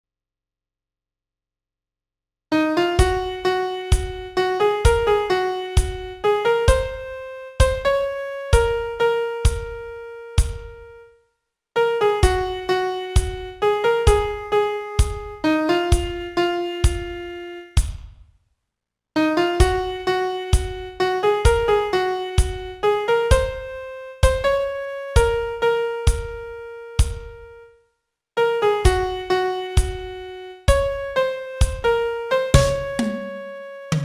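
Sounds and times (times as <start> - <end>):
solo piano melody: 2.5 - 11.2, 11.8 - 17.8, 19.2 - 27.7, 28.4 - 34.0.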